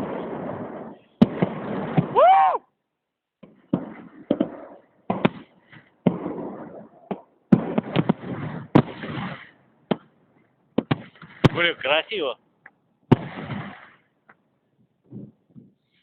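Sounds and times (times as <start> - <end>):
fireworks bangs: 0.0 - 2.6, 3.4 - 12.4, 13.1 - 14.2.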